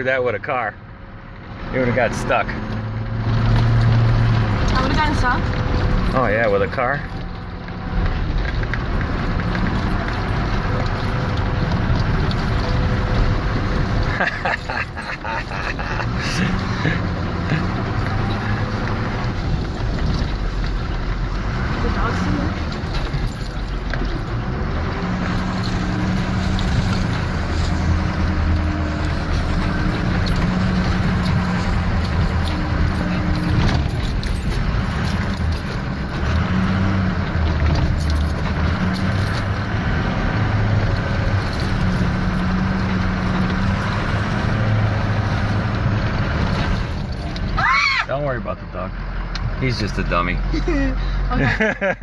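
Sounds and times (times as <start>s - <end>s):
diesel pickup engine: 0.0s - 52.0s
rattles and knocks: 2.2s - 47.6s.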